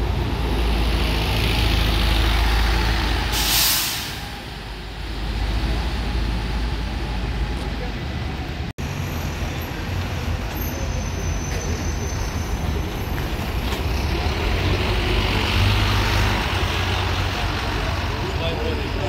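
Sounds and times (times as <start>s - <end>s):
bus engines rumbling: 0.0s - 19.0s
road noise: 0.0s - 19.0s.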